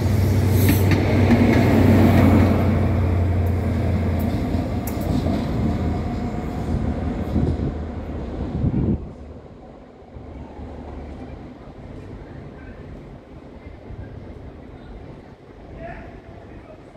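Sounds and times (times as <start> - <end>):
train diesel engine drone: 0.0 - 16.9.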